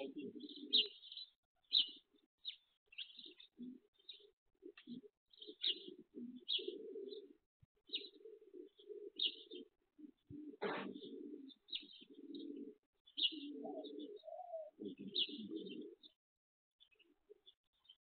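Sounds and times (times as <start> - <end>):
pigeons cooing: 0.0 - 16.2
small birds chirping: 0.0 - 16.2, 16.8 - 18.0.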